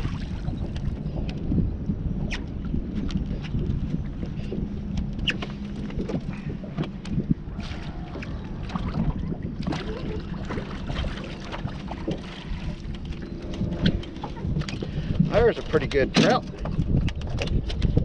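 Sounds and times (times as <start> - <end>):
water lapping against boat hull: 0.0 - 18.0
wind buffeting microphone: 0.0 - 18.0.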